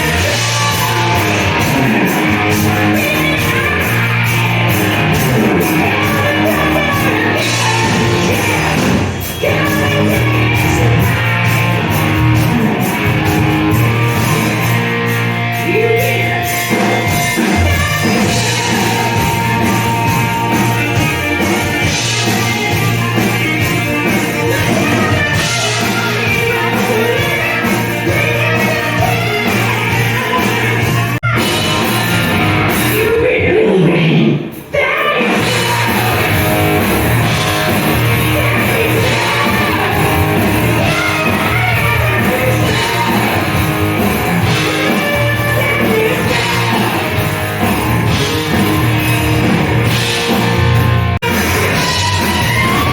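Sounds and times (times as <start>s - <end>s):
rock music with singer: 0.0s - 52.9s.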